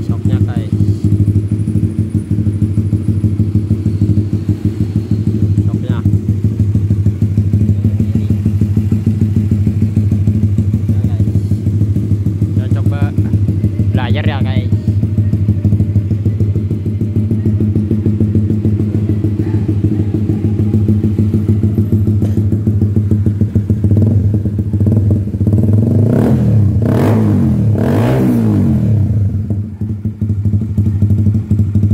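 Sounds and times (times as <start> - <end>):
motorcycle engine idling: 0.0 - 31.9
motorcycle throttle blips: 0.0 - 31.9.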